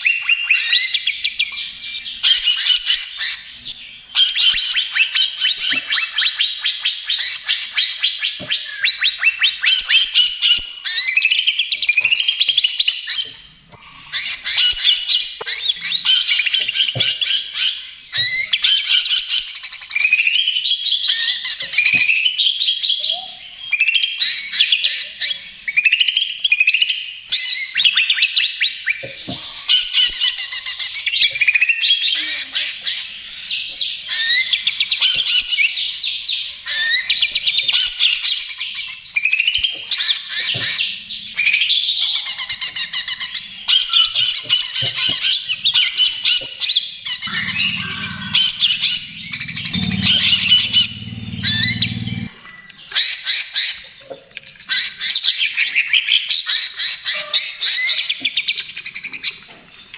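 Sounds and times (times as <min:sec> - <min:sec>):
bird singing trill song: 0:00.0 - 0:59.9.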